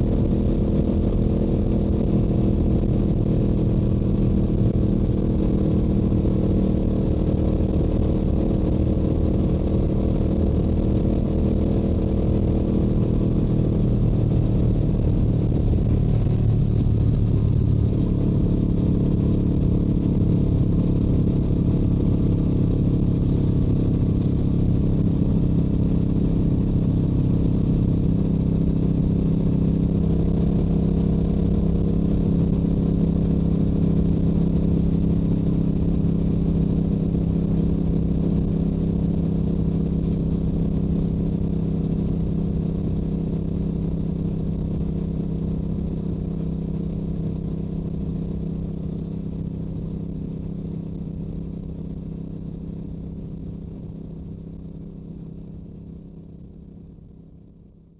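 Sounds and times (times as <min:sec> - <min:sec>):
motorcycle exhaust at steady speed: 0:00.0 - 0:57.9.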